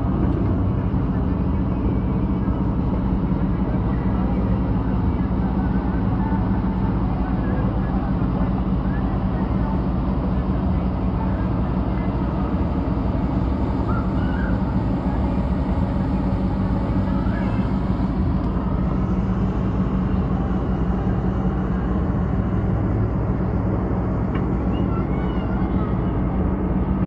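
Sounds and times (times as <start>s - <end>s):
engine droning: 0.0s - 27.0s
faint voices: 0.0s - 27.0s.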